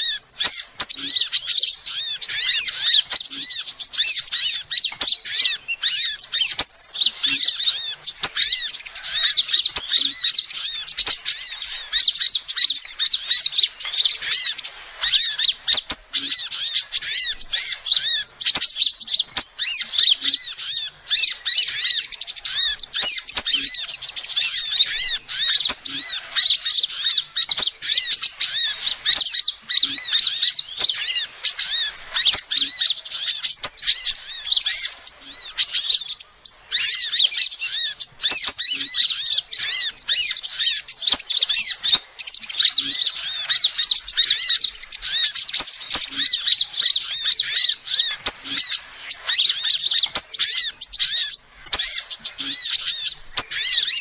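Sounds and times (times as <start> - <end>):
bird high chirping notes: 0.0 - 54.0.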